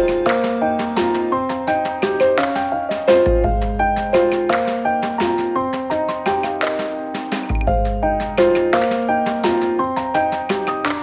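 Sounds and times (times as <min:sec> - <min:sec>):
melody of struck notes: 0:00.0 - 0:11.0.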